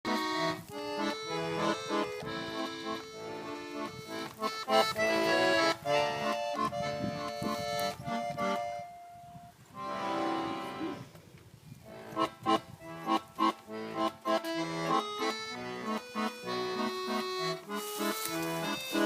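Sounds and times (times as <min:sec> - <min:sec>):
button accordion chords: 0:00.1 - 0:11.1, 0:11.9 - 0:19.0
accordion long note: 0:00.1 - 0:11.2, 0:11.8 - 0:19.0.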